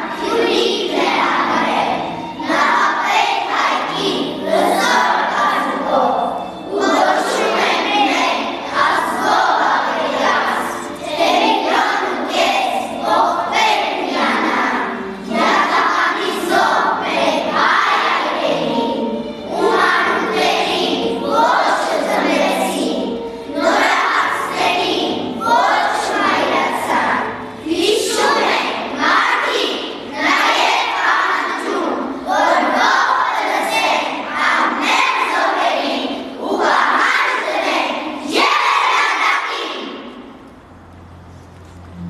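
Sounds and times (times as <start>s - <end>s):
children speaking in unison: 0.0s - 40.2s.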